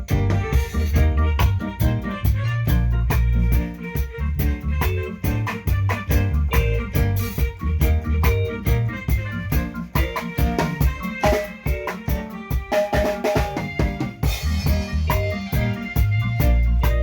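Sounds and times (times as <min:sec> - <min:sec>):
bass notes: 0:00.0 - 0:11.6, 0:13.6 - 0:17.0
drum kit beat: 0:00.0 - 0:17.0
keyboard notes: 0:00.0 - 0:17.0.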